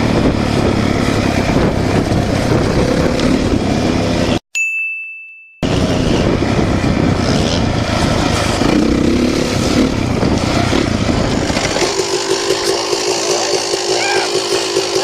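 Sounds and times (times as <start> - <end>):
motorcycle engine running: 0.0 - 4.4, 5.6 - 15.0.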